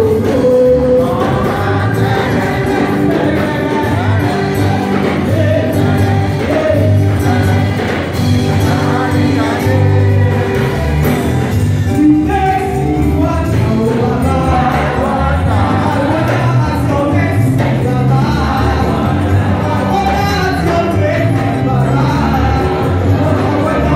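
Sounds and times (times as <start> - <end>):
gospel choir singing: 0.0 - 23.9
low bass notes: 0.0 - 23.9.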